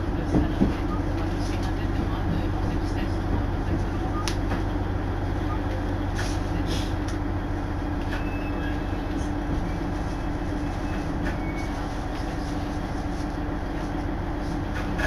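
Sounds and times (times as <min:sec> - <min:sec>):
railcar engine hum: 0:00.0 - 0:15.0.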